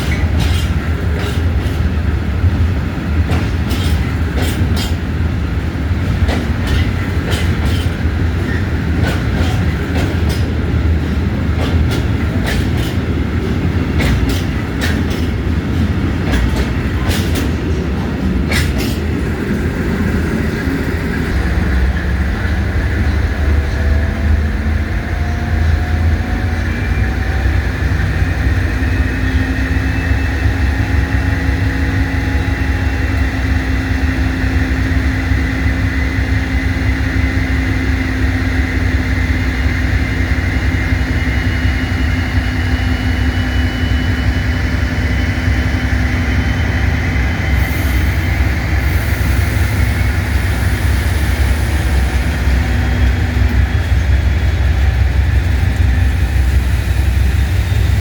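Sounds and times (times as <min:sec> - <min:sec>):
train rumbling close by: 0:00.0 - 0:58.0.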